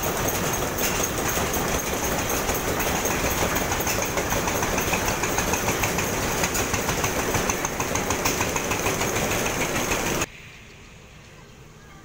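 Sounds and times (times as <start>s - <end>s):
stationary engines clattering: 0.0s - 10.3s.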